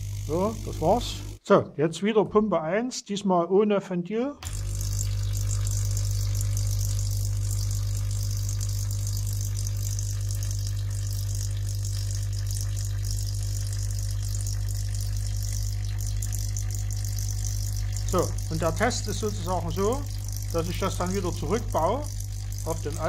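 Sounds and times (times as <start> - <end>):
water pump humming: 0.0 - 1.4, 4.4 - 23.0.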